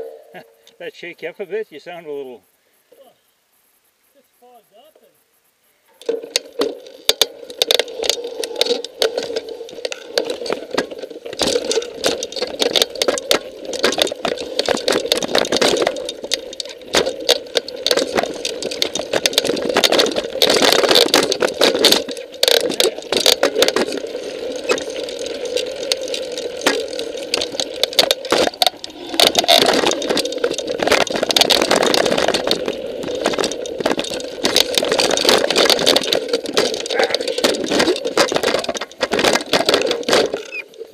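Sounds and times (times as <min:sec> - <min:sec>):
bike rattling over rocks: 0:05.9 - 0:40.9.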